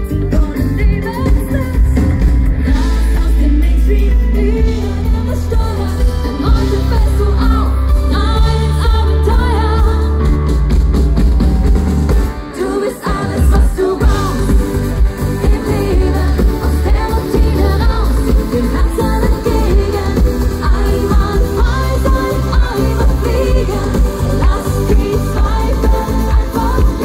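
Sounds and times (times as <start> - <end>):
woman singing: 0.0 - 10.6, 12.4 - 27.0
band with drums and bass: 0.0 - 27.0.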